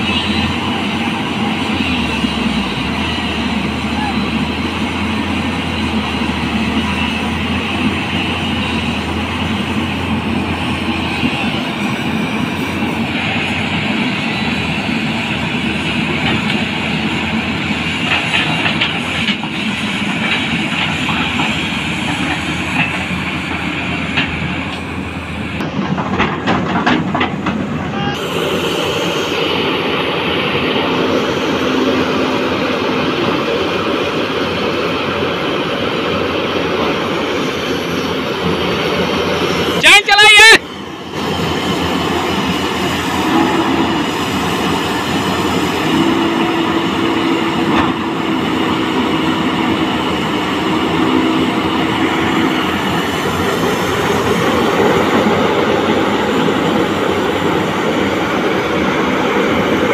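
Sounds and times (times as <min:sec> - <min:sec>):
metal clanking of bucket and tracks: 0:00.0 - 0:39.8, 0:40.6 - 0:59.9
diesel excavators running hard: 0:00.0 - 0:59.9.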